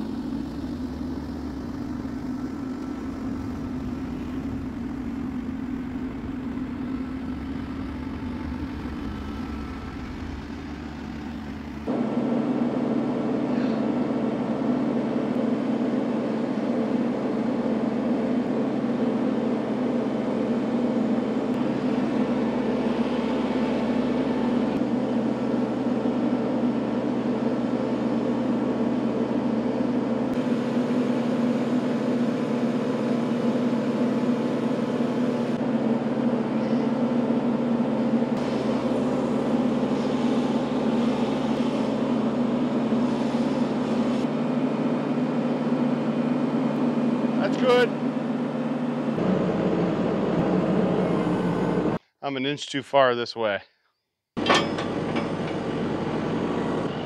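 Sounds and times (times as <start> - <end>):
tractor engine running: 0.0 - 12.6, 16.6 - 36.0, 37.4 - 52.0, 54.4 - 57.0.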